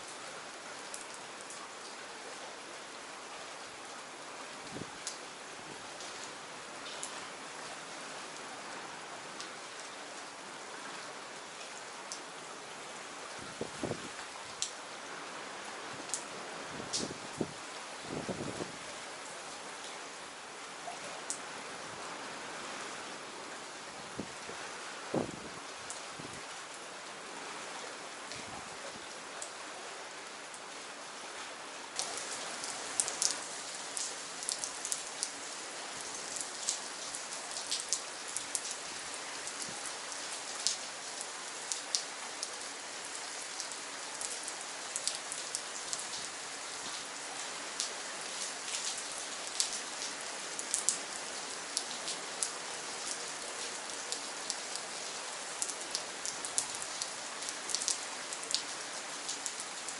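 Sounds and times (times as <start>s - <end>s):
close raindrops striking: 0.0s - 21.6s, 27.8s - 29.6s, 31.8s - 59.9s
steady rain falling: 0.0s - 59.9s.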